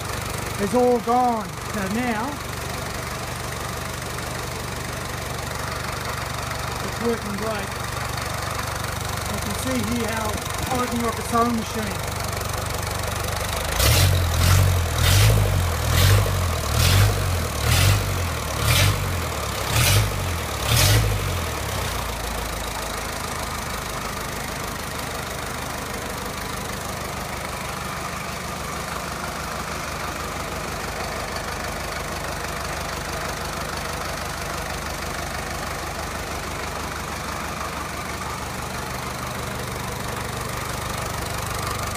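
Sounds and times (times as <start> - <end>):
diesel engine revving and idling: 0.0 - 41.9.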